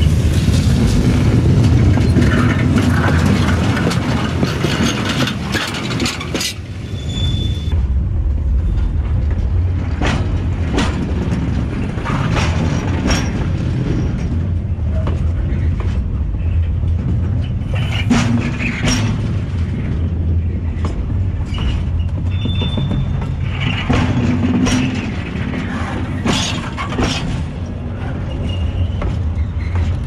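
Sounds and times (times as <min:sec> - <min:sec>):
wheels clacking over rail joints: 0:00.0 - 0:06.8, 0:08.8 - 0:30.0
train wheels rumbling: 0:00.0 - 0:30.0.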